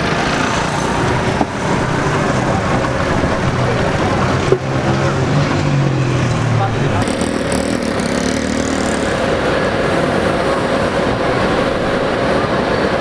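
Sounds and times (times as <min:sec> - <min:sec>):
crowd talking: 0:00.0 - 0:13.0
motor vehicle engine hum: 0:00.0 - 0:13.0.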